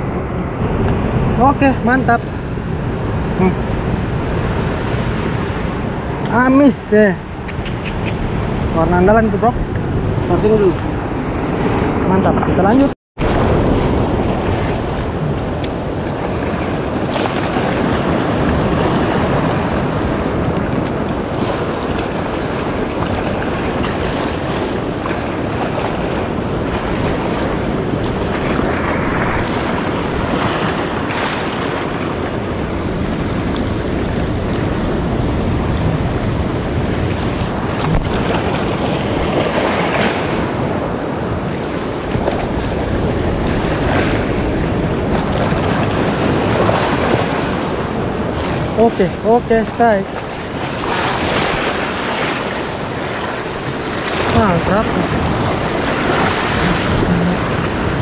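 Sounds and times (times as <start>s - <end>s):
wind buffeting microphone: 0.0s - 58.0s
sea surf washing over rocks: 8.2s - 58.0s.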